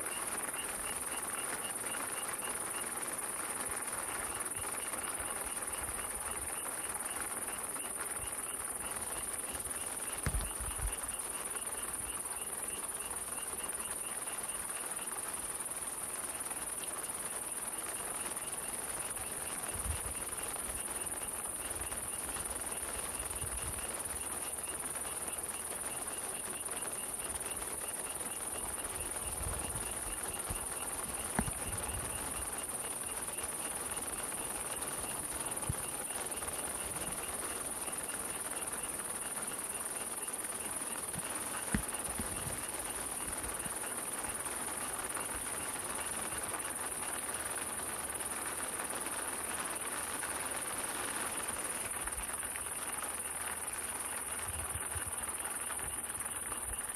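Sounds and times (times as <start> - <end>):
rain falling in forest: 0.0 - 56.9
insect chirping: 3.8 - 56.9.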